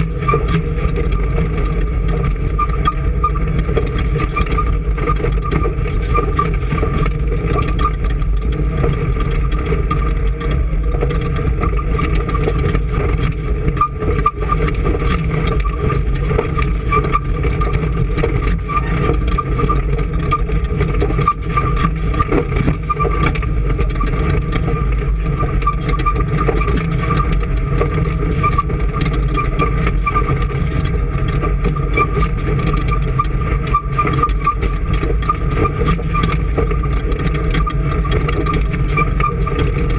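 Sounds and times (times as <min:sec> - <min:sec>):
engine running with high whine: 0:00.0 - 0:39.9.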